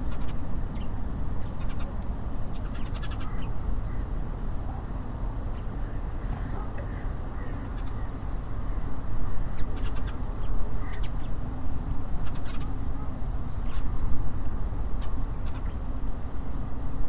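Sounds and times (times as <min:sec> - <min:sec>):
songbirds chirping: 0:00.0 - 0:16.8.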